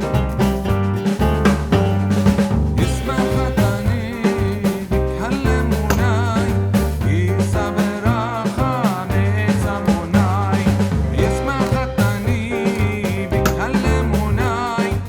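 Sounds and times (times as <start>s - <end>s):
song with singing over drums: 2.2s - 15.0s.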